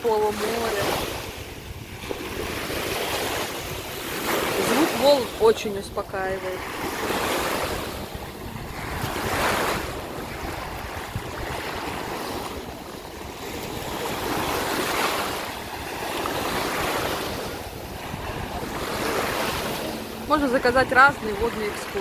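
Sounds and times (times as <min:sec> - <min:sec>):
small waves breaking on sand: 0:00.0 - 0:22.0
wind rumble on microphone: 0:00.0 - 0:22.0.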